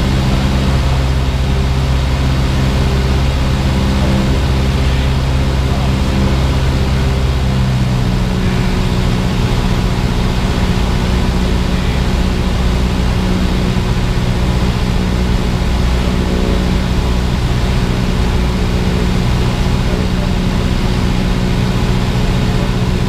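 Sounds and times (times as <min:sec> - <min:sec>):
aircraft engine droning in cabin: 0:00.0 - 0:23.0.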